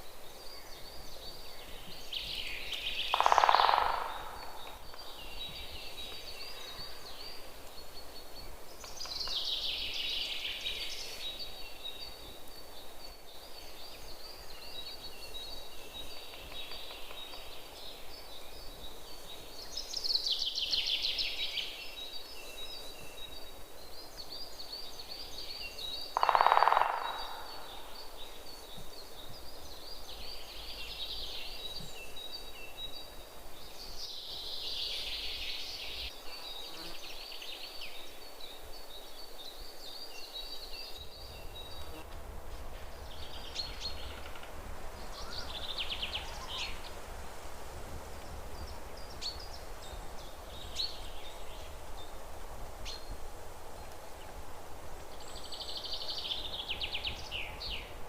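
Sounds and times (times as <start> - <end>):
birds chirping and twittering: 0.0 - 54.4, 55.0 - 58.0.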